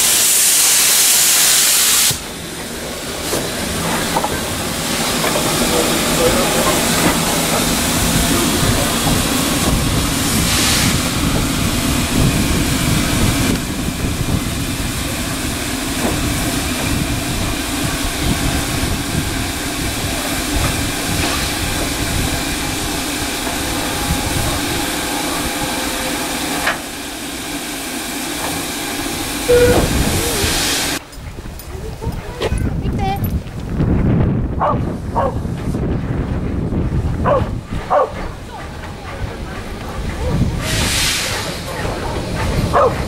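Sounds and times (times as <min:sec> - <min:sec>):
steam locomotive hissing: 0:00.0 - 0:32.8, 0:34.9 - 0:43.0.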